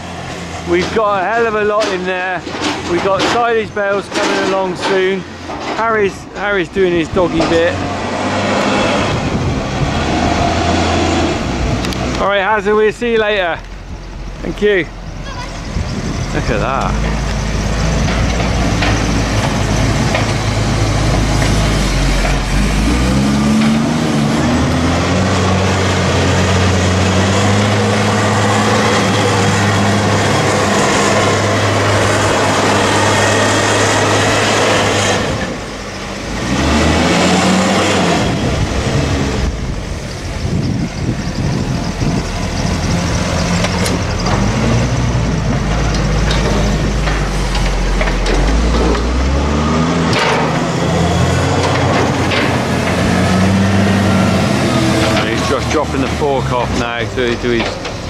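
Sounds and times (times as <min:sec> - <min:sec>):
wheel loader diesel engine revving: 0:00.0 - 0:58.0.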